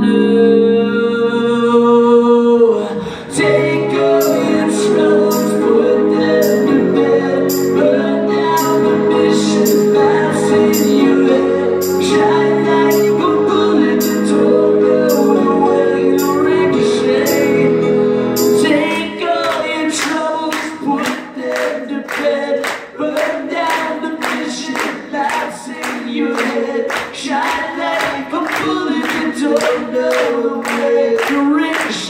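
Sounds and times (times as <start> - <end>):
voices singing together: 2.6 - 32.0.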